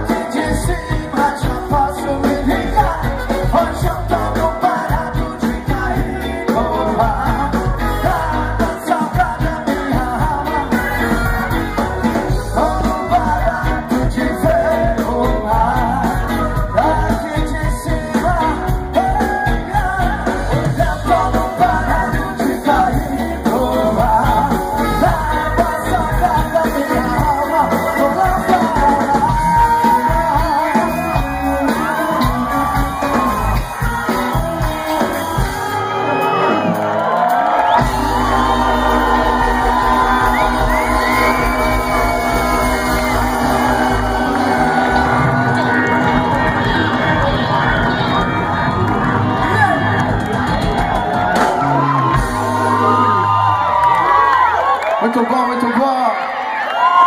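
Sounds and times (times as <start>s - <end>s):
lead singer: 0.0s - 55.3s
live reggae band playing: 0.0s - 57.0s.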